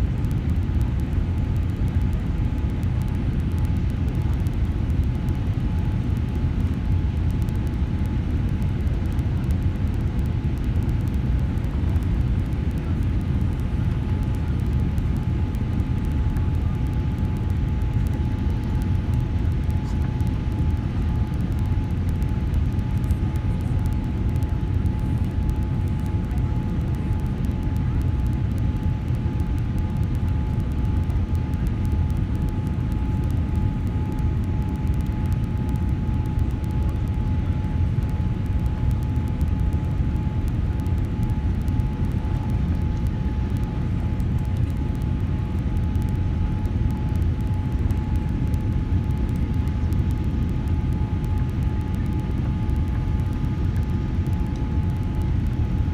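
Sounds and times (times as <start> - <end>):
jet engine cabin rumble: 0.0 - 55.9
thin steady whine: 0.0 - 55.9.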